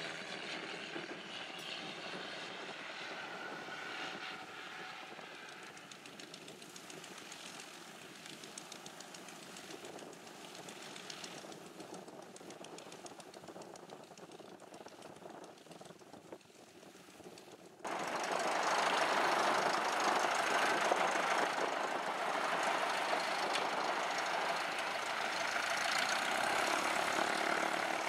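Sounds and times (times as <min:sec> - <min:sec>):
plane engine clattering close by: 0:00.0 - 0:28.0
propeller plane droning overhead: 0:00.0 - 0:28.0.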